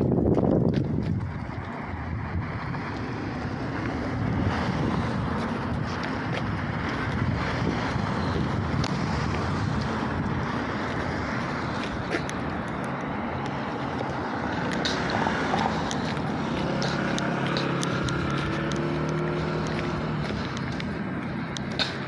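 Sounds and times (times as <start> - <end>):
city traffic: 0.0 - 22.0
wind rumble on microphone: 0.0 - 22.0.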